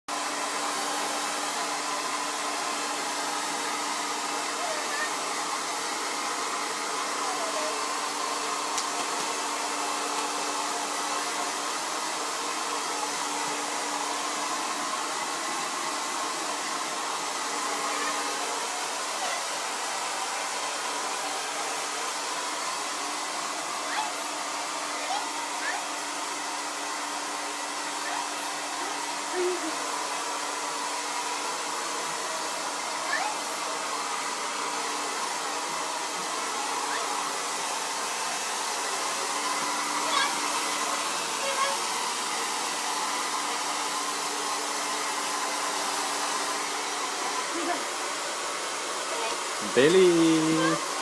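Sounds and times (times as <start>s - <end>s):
hair dryer blowing: 0.1s - 51.0s.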